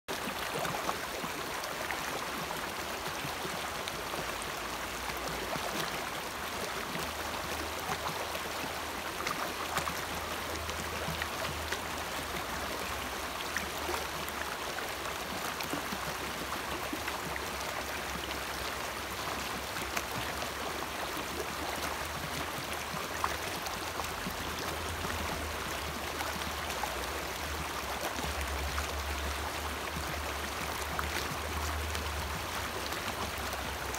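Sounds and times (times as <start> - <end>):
creek water babbling over stones: 0.1 - 33.9.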